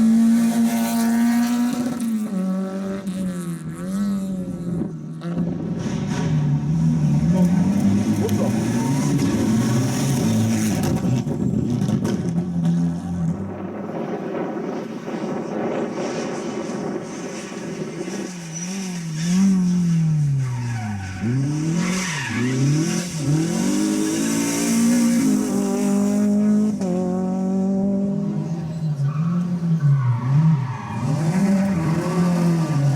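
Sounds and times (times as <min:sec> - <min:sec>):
rally car engine revving: 0:00.0 - 0:32.9
tyres skidding: 0:05.4 - 0:27.2, 0:28.0 - 0:32.9.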